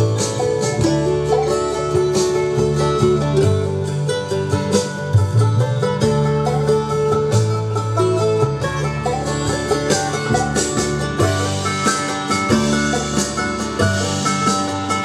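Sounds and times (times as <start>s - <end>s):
bass line: 0.0s - 15.0s
plucked-string bluegrass tune: 0.0s - 15.0s.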